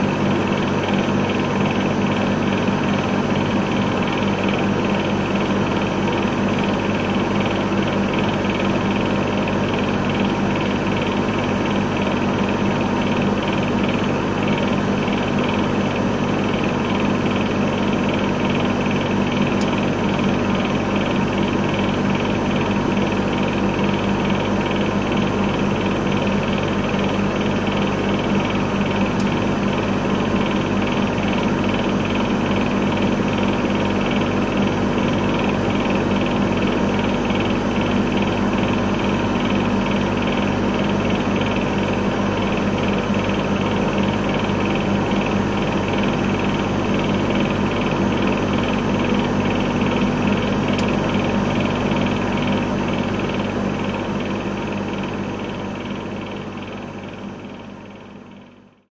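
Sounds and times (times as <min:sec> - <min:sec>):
vending machine buzzing hum: 0:00.0 - 0:58.8.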